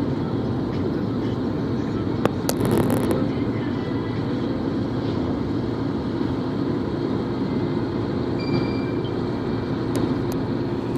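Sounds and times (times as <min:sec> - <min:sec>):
vehicle engine rumbling: 0:00.0 - 0:10.9.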